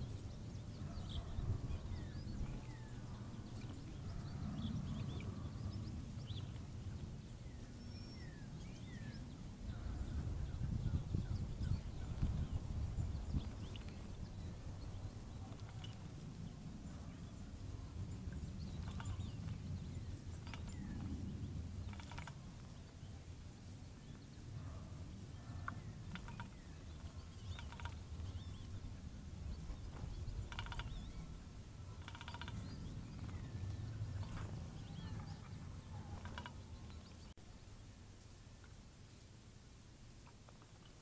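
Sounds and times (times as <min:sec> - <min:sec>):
steady low rumble: 0:00.0 - 0:38.5
small birds chirping and singing: 0:00.0 - 0:39.3.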